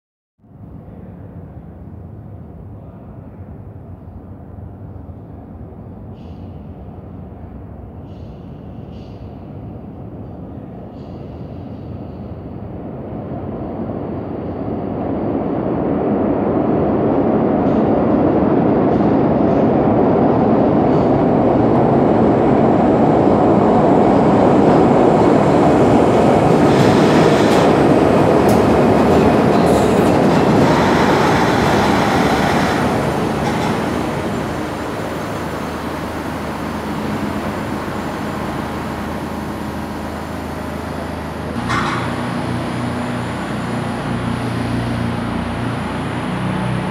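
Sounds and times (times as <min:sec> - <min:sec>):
train wheels rumbling on rail: 0:00.8 - 0:46.9.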